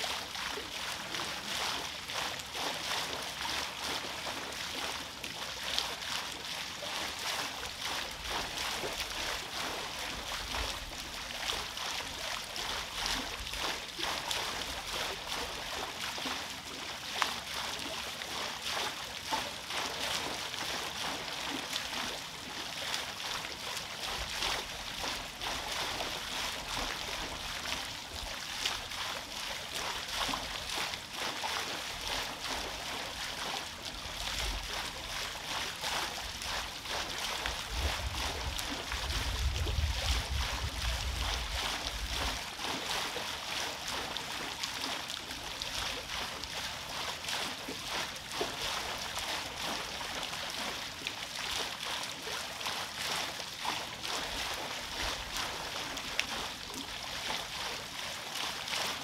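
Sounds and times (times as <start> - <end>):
water splashing off a waterwheel: 0.0 - 59.0.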